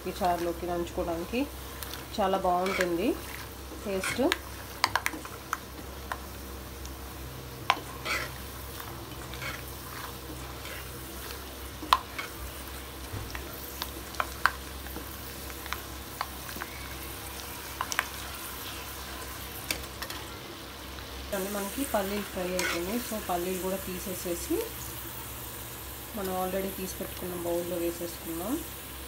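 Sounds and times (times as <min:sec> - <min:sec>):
peanuts sizzling in hot oil: 0:00.0 - 0:29.0.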